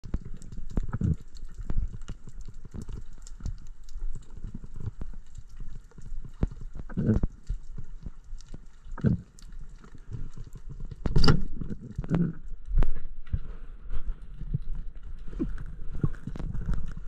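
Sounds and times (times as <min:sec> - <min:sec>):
underwater crackling clicks: 0:00.0 - 0:13.4, 0:14.3 - 0:17.0.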